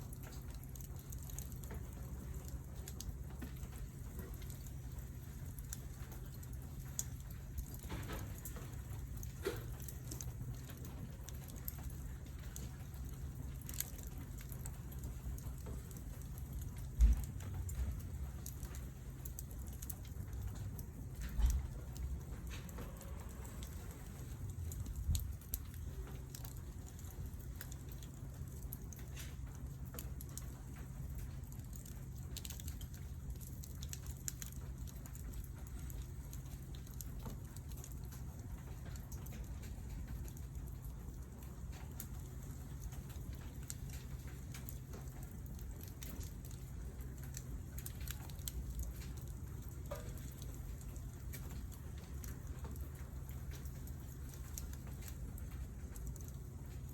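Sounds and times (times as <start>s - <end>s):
campfire crackling and popping: 0.0s - 56.9s
low fire rumble: 0.0s - 56.9s.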